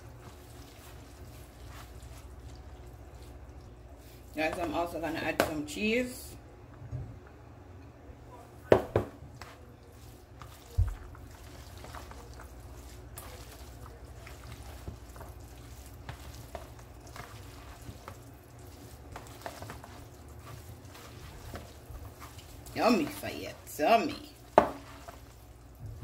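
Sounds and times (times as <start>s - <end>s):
wet squishing of pasta stirring: 0.0s - 6.8s, 8.5s - 26.0s
low steady hum: 0.0s - 26.0s.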